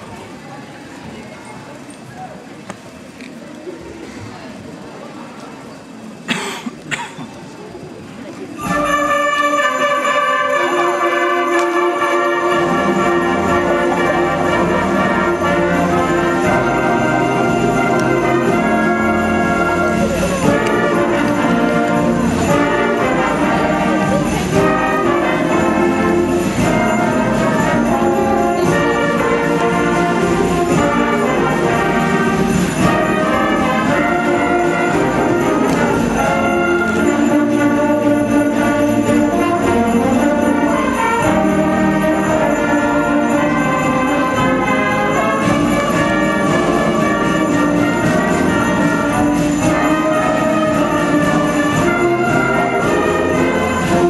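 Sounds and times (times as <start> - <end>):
concert band playing: 8.3 - 54.0
bells jingling: 8.5 - 54.0.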